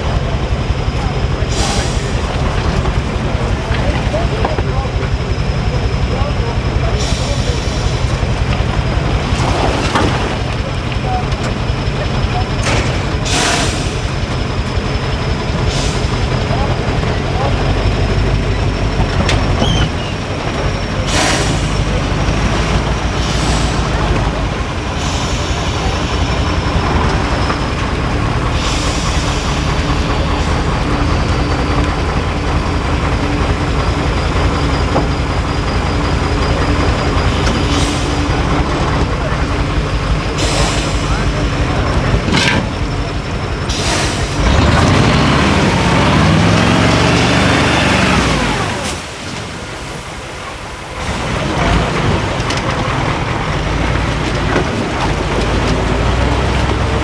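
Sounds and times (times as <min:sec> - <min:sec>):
truck diesel engine rumbling: 0:00.0 - 0:57.0.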